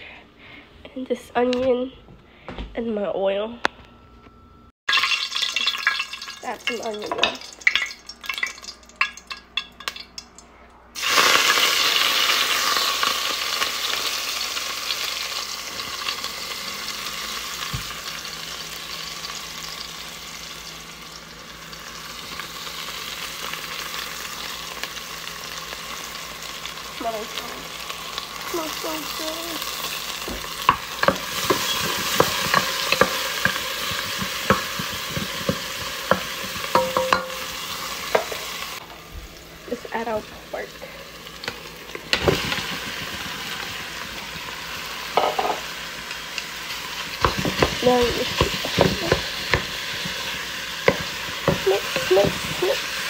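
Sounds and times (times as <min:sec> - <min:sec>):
onions sizzling in hot oil: 0:04.9 - 0:10.2, 0:11.0 - 0:53.0.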